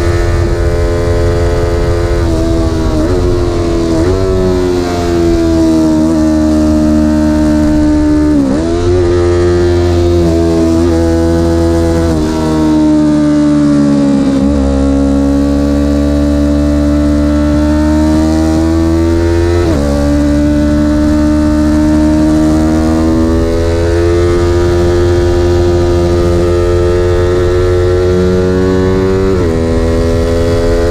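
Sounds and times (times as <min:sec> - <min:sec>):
vehicle engine running hard: 0:00.0 - 0:30.9.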